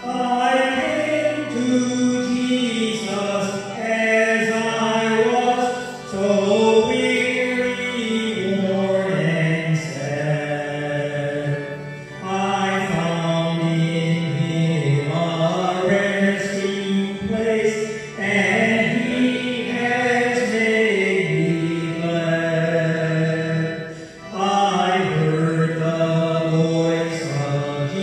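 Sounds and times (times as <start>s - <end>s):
chant-like sacred singing: 0.0s - 28.0s.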